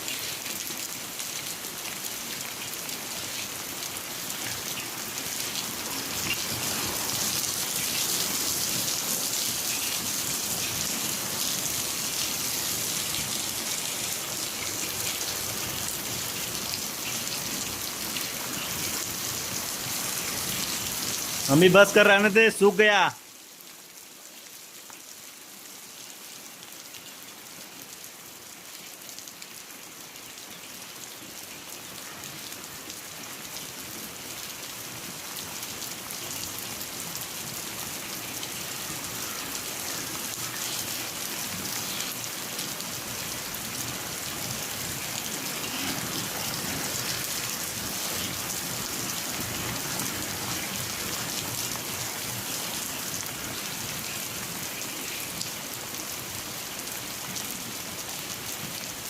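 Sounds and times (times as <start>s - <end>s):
rain falling steadily: 0.0s - 59.0s.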